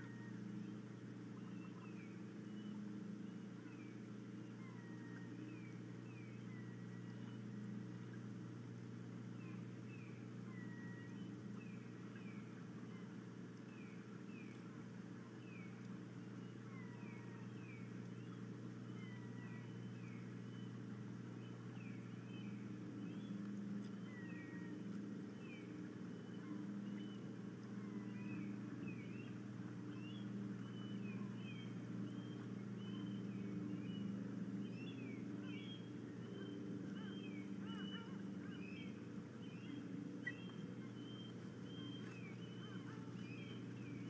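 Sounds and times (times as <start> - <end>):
birds chirping and whistling: 0.0 - 8.1, 9.4 - 14.6, 15.3 - 44.0
steady low hum: 0.0 - 44.0.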